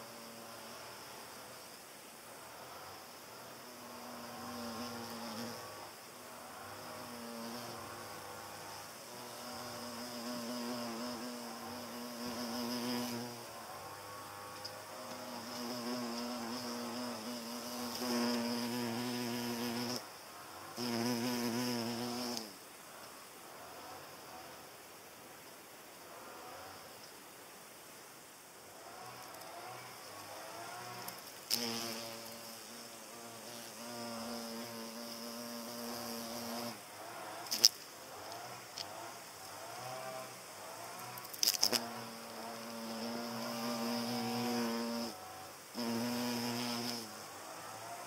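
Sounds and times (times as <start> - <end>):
hornet wings buzzing: 2.3 - 22.6, 28.8 - 48.0.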